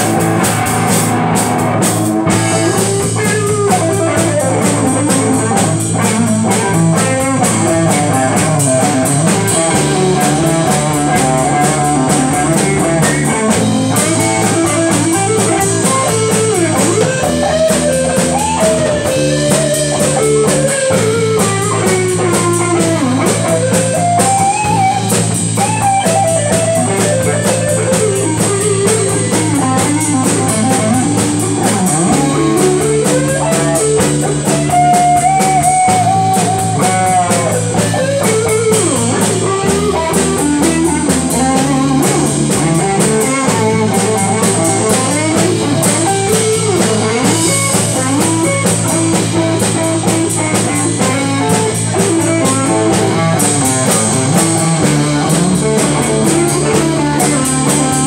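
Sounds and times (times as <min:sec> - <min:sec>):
drum kit: 0:00.0 - 0:58.0
electric guitar melody with bent notes: 0:00.0 - 0:58.0
walking bass line: 0:00.0 - 0:58.0.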